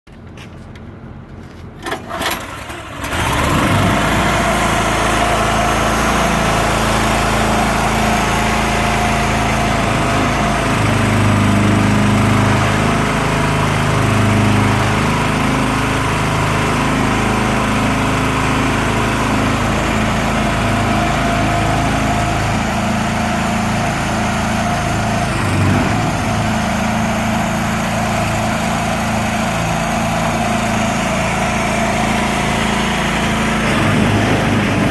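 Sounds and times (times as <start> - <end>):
small engine starting and running: 1.8 - 34.9.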